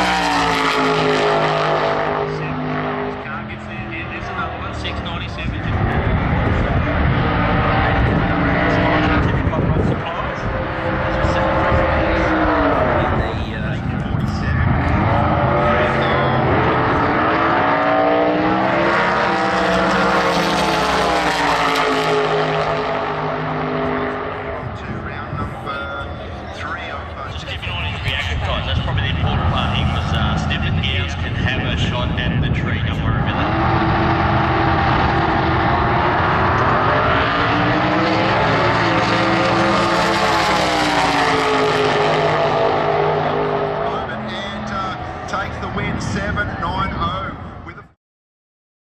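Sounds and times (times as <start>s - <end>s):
race car engine at full throttle: 0.0s - 48.0s.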